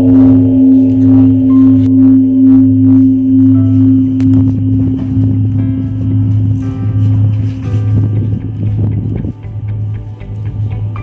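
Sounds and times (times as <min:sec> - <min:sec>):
large bronze bell ringing: 0:00.0 - 0:09.2.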